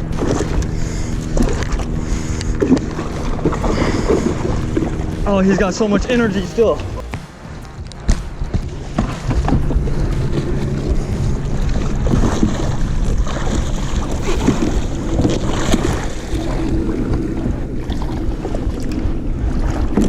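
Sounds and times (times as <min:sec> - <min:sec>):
water against hull: 0:00.0 - 0:20.0
wind buffeting microphone: 0:00.0 - 0:20.0.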